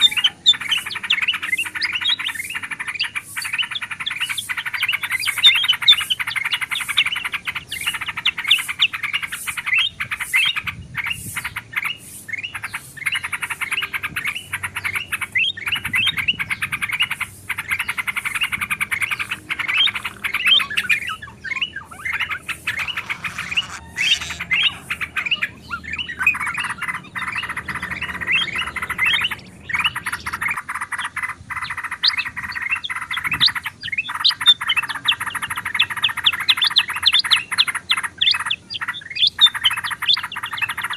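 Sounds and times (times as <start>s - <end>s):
chorus of bulbul calls: 0.0s - 40.9s.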